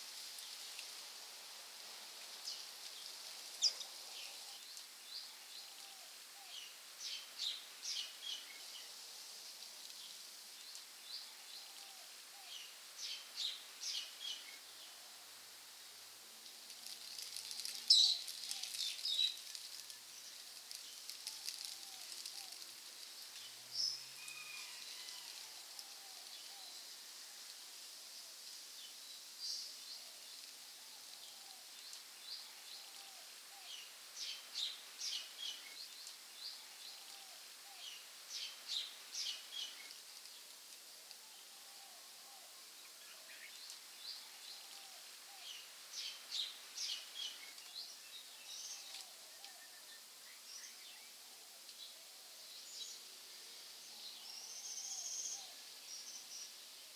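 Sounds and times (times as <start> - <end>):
steady high hiss: 0.0 - 56.9.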